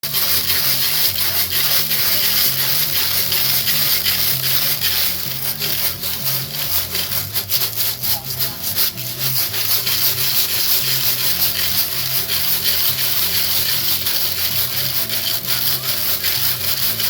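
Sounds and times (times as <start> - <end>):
metal balls rattling in metal tank: 0.0 - 17.0.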